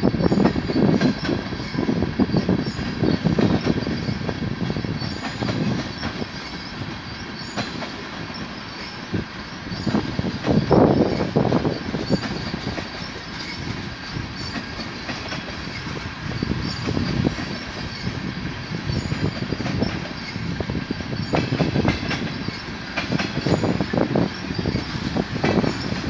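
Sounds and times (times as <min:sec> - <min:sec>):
train wheels rumbling on rails: 0:00.0 - 0:26.0
sharp clicks of rail wheels: 0:00.2 - 0:26.0.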